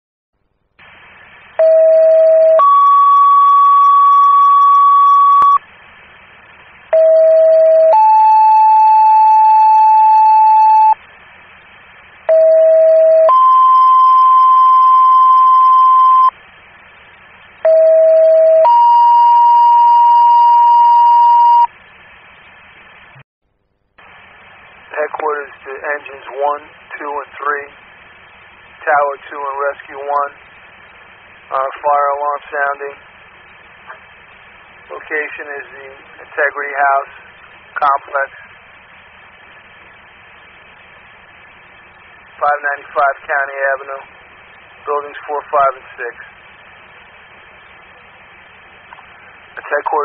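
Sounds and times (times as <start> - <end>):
faint radio hiss: 0.6 - 1.8, 2.8 - 7.3, 8.3 - 12.9, 13.6 - 17.7, 21.7 - 23.2, 24.0 - 50.0.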